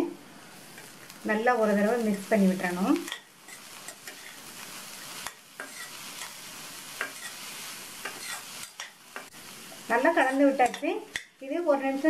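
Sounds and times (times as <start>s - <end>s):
soft sizzle: 0.0s - 12.0s
spatula stirring food in pan: 0.5s - 12.0s.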